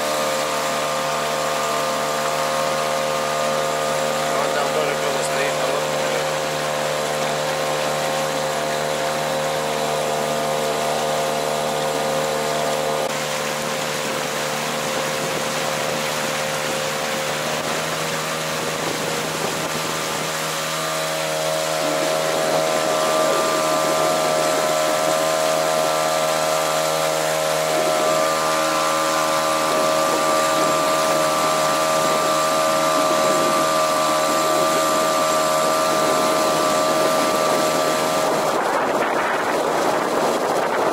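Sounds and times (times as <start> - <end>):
outboard motor whine: 0.0 - 40.9.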